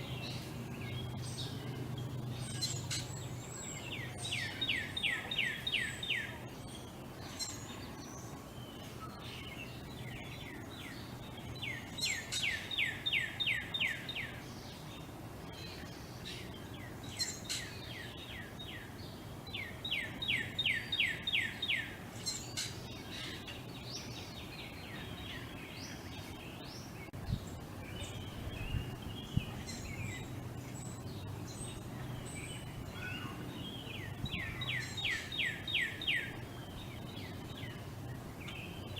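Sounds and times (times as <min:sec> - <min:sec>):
birds chirping: 0:00.0 - 0:38.9
low background hum: 0:00.0 - 0:38.9
songbird whistling song: 0:00.0 - 0:38.9.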